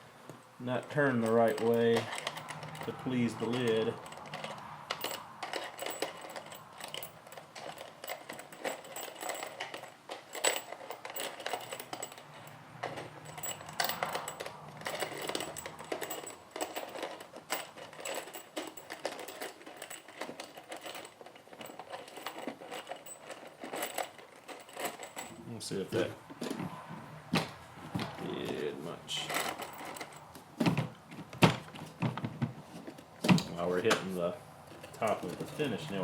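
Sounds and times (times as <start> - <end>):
loose nails rattling in plastic bin: 0.8 - 25.4, 27.4 - 34.1.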